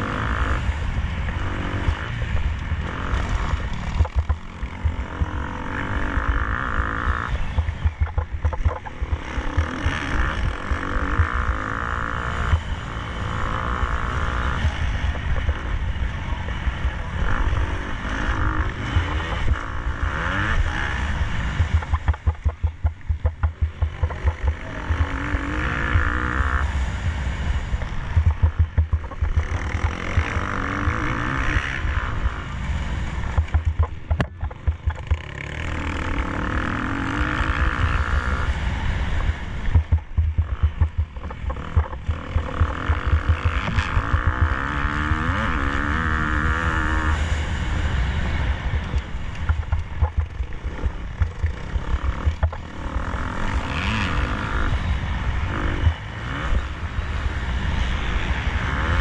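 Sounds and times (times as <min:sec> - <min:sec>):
heavy low rumble: 0:00.0 - 0:46.5, 0:48.8 - 0:53.0
motocross engine revving: 0:00.0 - 0:59.0.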